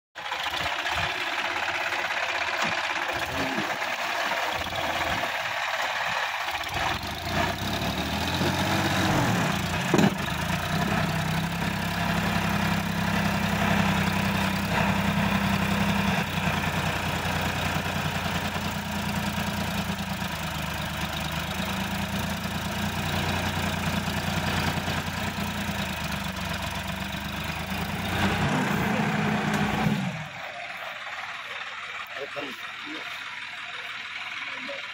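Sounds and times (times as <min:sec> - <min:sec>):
tractor diesel engine under load: 0:00.2 - 0:34.9.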